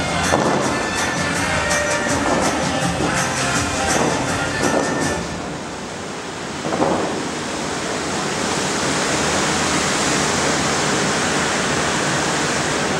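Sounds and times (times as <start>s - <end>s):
fountain water spray hissing: 0.0s - 12.9s.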